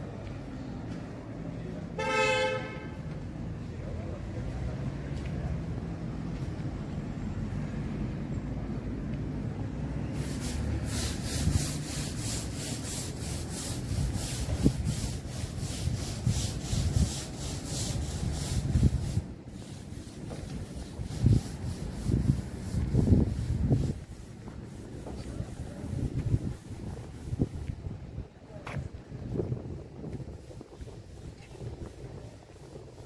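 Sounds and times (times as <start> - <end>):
low street rumble: 0.0 - 33.0.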